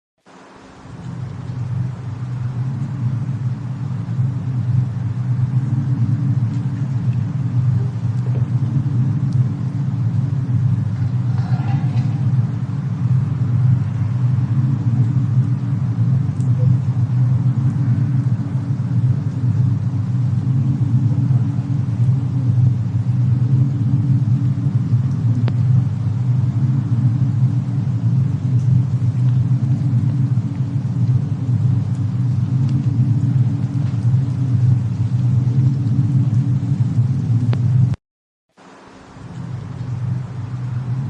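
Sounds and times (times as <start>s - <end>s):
faint fire crackles: 0.2s - 41.0s
steady low rumble: 0.3s - 38.0s, 38.6s - 41.0s.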